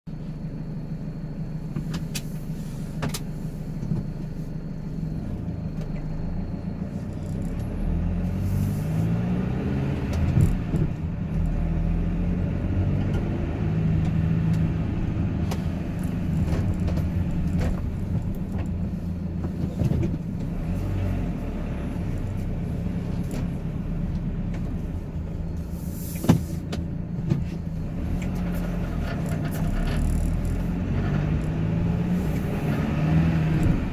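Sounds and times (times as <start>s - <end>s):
road noise: 0.1s - 33.9s
car engine accelerating: 4.8s - 33.9s.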